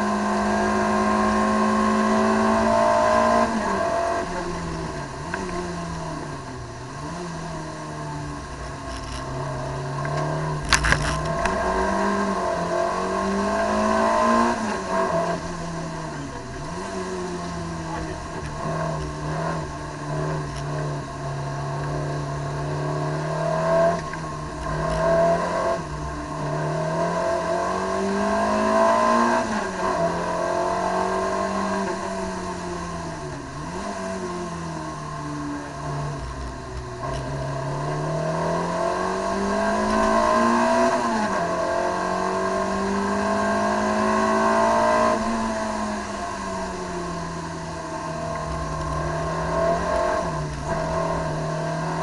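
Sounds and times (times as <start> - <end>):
car engine under load: 0.0 - 52.0.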